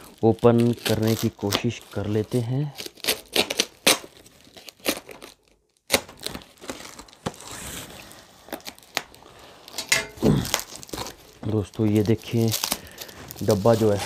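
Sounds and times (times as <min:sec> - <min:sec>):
plastic wrapping crinkling and tearing: 0:00.0 - 0:14.0.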